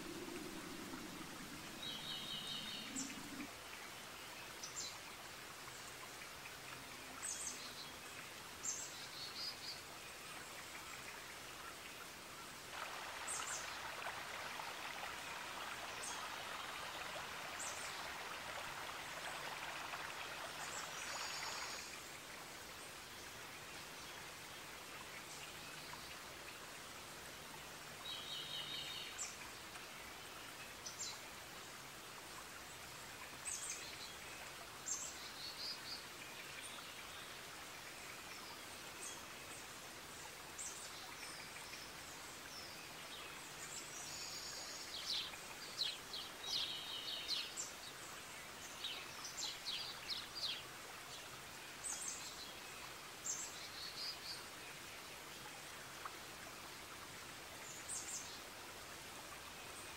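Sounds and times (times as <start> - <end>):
soft steady hiss: 0.0 - 59.9.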